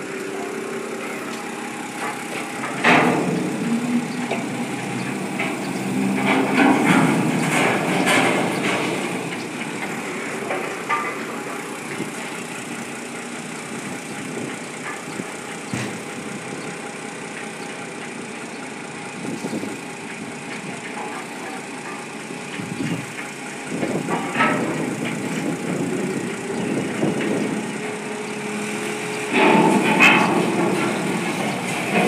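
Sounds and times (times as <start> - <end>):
forklift engines running: 0.0 - 32.0.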